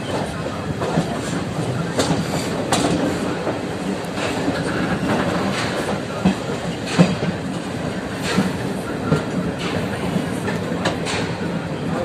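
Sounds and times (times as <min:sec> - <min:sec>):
train coaches rumbling: 0:00.0 - 0:12.0.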